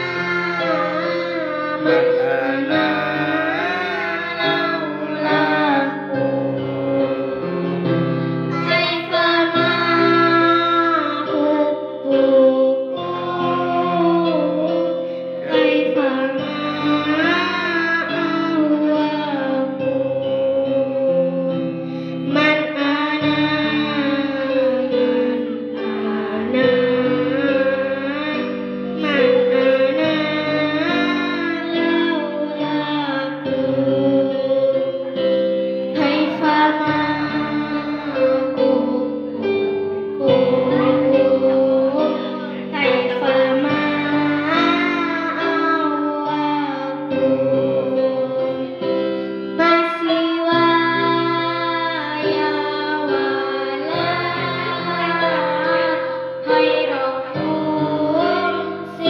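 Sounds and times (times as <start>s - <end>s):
girl singing into microphone: 0.0s - 59.0s
instrumental backing music: 0.0s - 59.0s.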